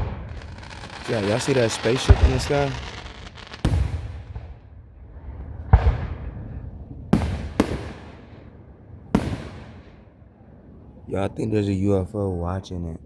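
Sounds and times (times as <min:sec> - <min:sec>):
fireworks booming: 0:00.0 - 0:11.1.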